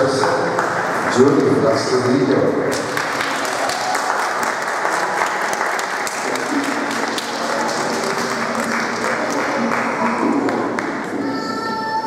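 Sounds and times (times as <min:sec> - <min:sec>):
audience applauding: 0:00.0 - 0:01.4, 0:02.7 - 0:11.4.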